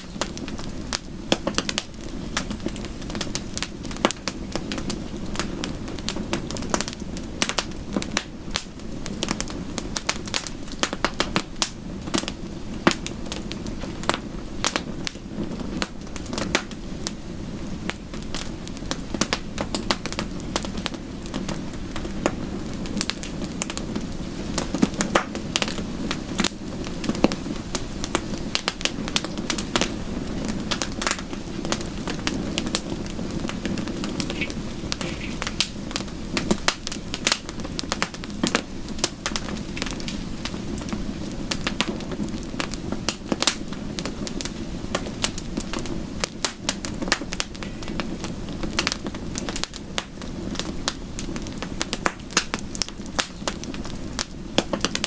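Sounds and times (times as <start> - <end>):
soft rain: 0.0 - 55.0
wood fire crackling and popping: 0.0 - 55.0.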